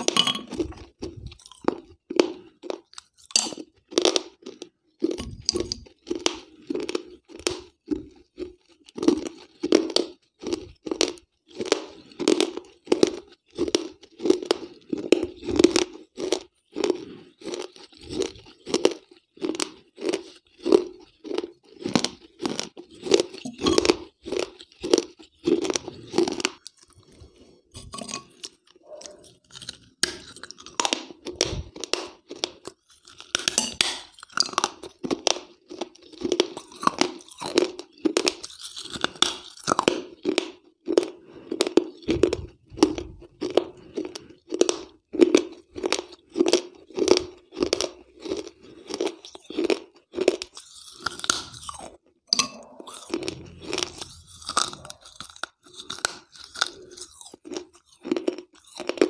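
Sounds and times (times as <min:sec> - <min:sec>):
clay pieces crunched and chewed: 0:00.0 - 0:59.0.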